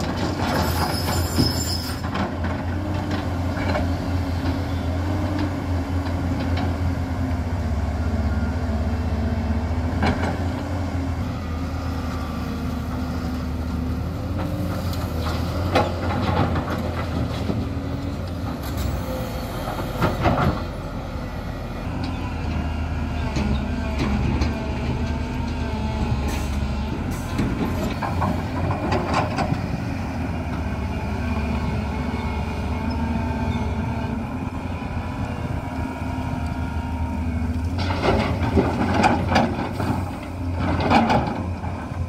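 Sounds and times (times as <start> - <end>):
excavator diesel engines droning: 0.0 - 42.0.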